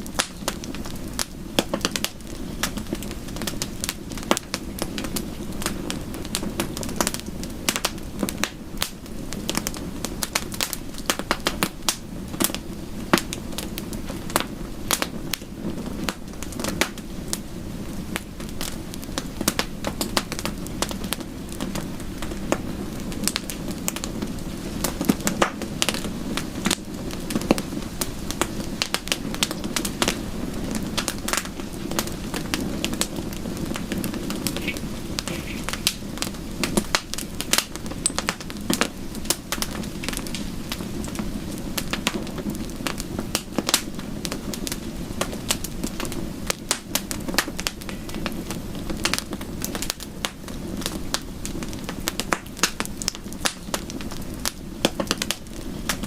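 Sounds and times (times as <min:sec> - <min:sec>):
burning wood popping: 0:00.0 - 0:56.0
fire rushing: 0:00.0 - 0:56.0.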